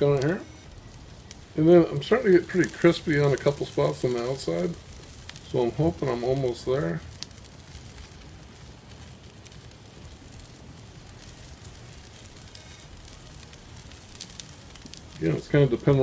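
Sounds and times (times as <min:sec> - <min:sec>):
fire crackling: 0:00.0 - 0:16.0
wood fire hissing: 0:00.0 - 0:16.0.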